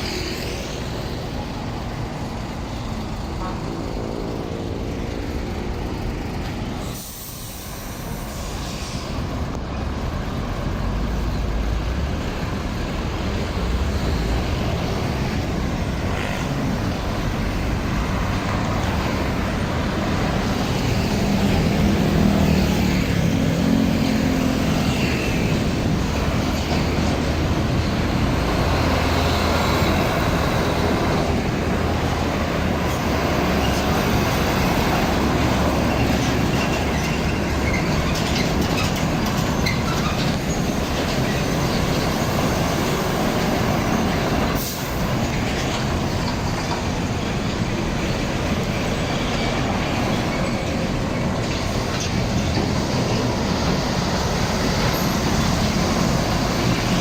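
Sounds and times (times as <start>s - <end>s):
heavy trucks passing: 0.0s - 57.0s
trailers rattling: 0.0s - 57.0s.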